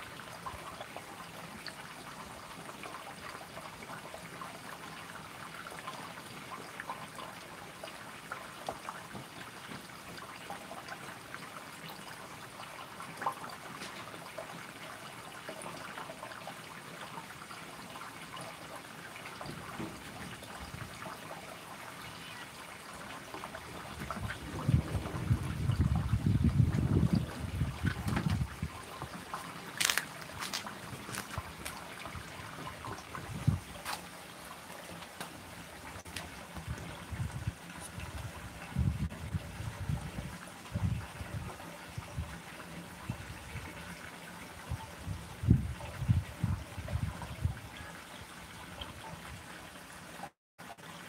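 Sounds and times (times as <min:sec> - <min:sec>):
faint outdoor hiss: 0:00.0 - 0:51.0.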